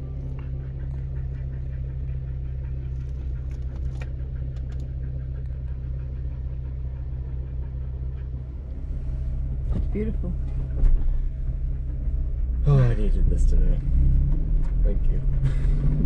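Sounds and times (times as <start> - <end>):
car engine drone from inside cabin: 0.0 - 16.0.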